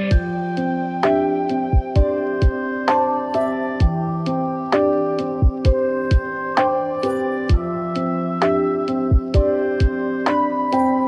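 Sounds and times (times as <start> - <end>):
low thumping beat: 0.0 - 2.6, 3.8 - 10.1
keyboard chords: 0.0 - 11.0.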